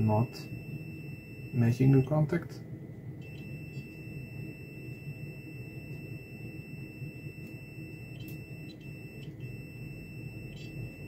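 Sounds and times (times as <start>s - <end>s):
multimeter continuity beep: 0.0s - 11.0s.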